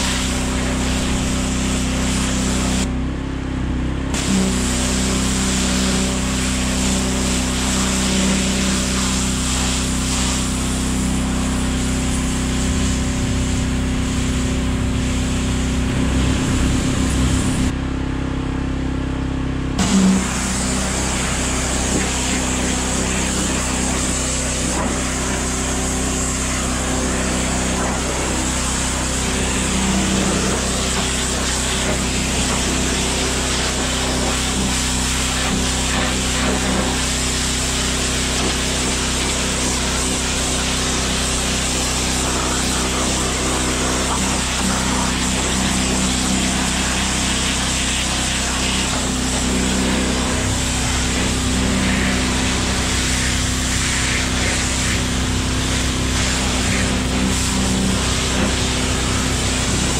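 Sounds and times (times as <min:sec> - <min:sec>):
steam cleaner spray hissing: 0:00.0 - 0:02.9, 0:04.2 - 0:17.7, 0:19.8 - 0:59.9.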